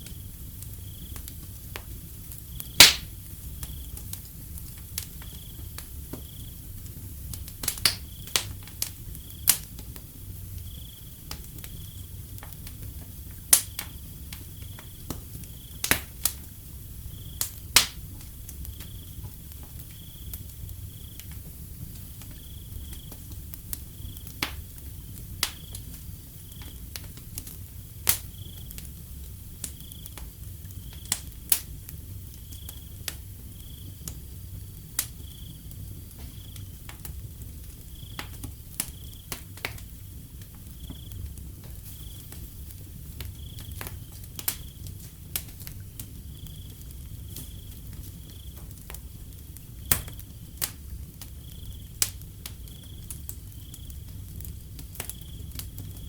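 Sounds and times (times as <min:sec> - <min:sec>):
cricket chirping: 0:00.0 - 0:01.4, 0:02.2 - 0:04.0, 0:05.0 - 0:06.7, 0:08.0 - 0:09.7, 0:10.3 - 0:12.2, 0:13.6 - 0:45.1, 0:45.7 - 0:56.0
wood fire crackling and popping: 0:00.0 - 0:56.0.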